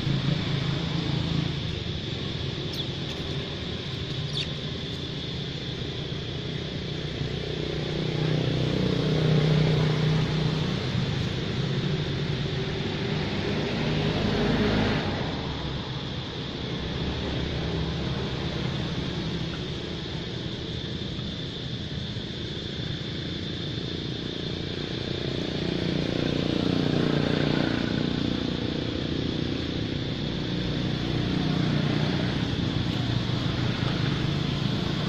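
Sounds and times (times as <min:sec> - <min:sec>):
steady outdoor hum: 0:00.0 - 0:35.0
vehicle engine noise: 0:00.0 - 0:35.0.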